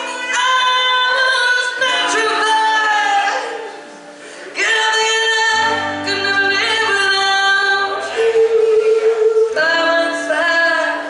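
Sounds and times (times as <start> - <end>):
acoustic guitar: 0.0 - 11.0
woman singing country song: 0.0 - 11.0.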